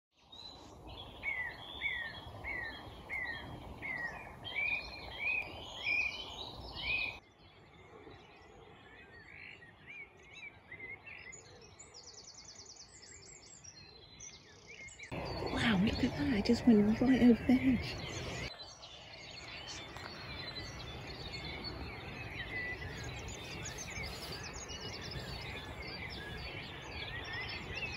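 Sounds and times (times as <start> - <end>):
steady outdoor noise: 0.2 - 27.9
faint bird chirps: 0.3 - 27.9.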